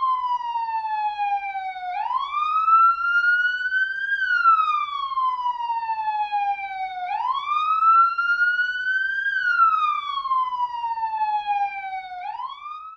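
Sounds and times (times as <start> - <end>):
police siren wailing: 0.0 - 12.9.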